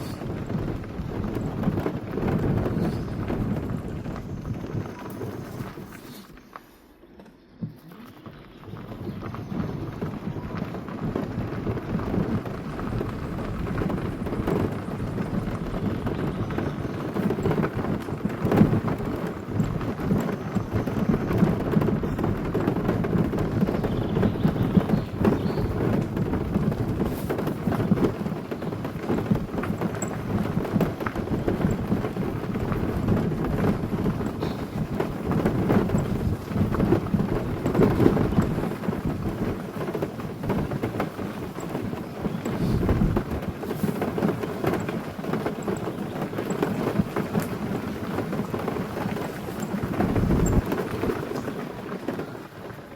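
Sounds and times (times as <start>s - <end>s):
car tyres rolling on gravel: 0.0s - 52.9s.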